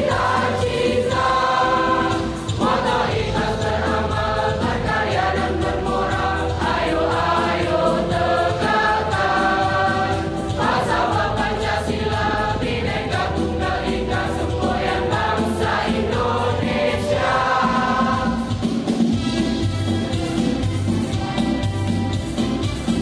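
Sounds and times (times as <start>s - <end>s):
choir singing in harmony: 0.0s - 23.0s.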